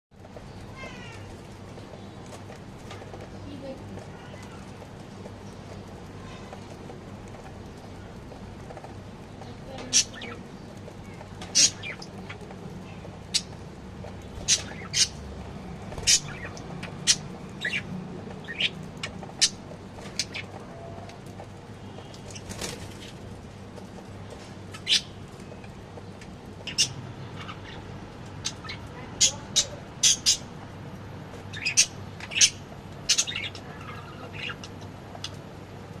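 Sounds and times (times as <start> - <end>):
low background hum: 0.2 - 36.0
small birds chirping: 0.2 - 36.0.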